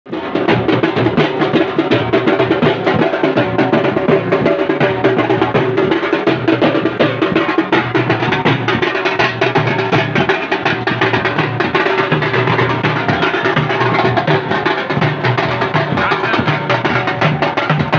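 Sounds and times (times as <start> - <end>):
dhol drums beaten fast: 0.1 - 17.9.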